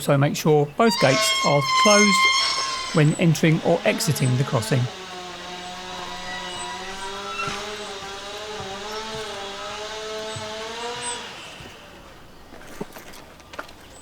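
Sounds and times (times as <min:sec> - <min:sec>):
high-pitched mechanical whine: 0:00.9 - 0:12.7
steady low hum: 0:01.0 - 0:12.7.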